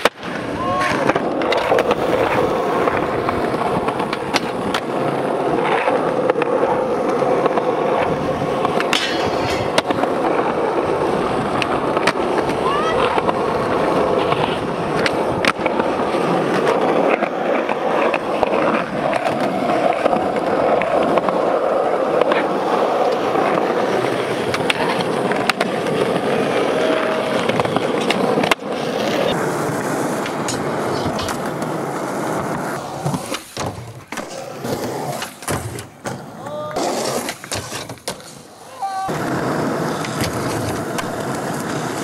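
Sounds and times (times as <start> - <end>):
skateboard clacks: 0.0 - 42.0
skateboard wheels rolling on concrete: 0.0 - 42.0.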